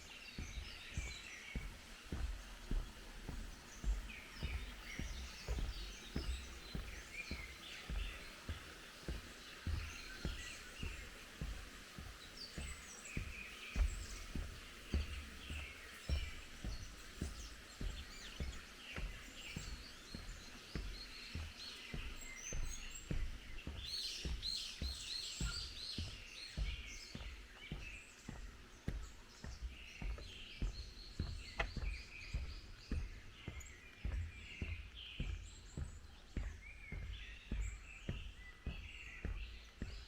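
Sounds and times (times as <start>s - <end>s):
birds singing and chirping: 0.0s - 40.0s
footsteps walking: 0.0s - 40.0s.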